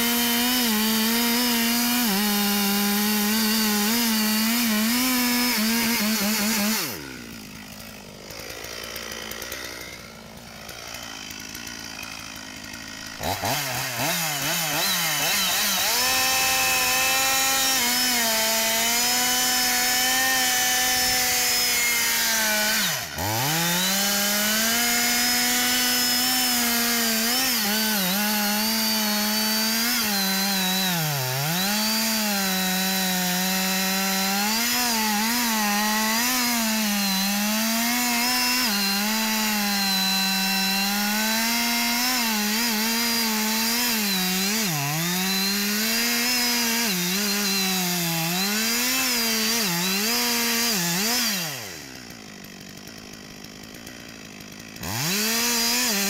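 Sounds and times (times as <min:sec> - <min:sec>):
chainsaw cutting wood: 0:00.0 - 0:56.0
chainsaw idling: 0:00.0 - 0:56.0.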